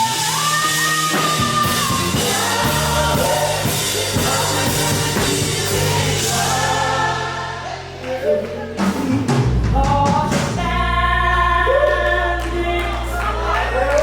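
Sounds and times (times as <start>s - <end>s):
group of voices singing: 0.0s - 14.0s.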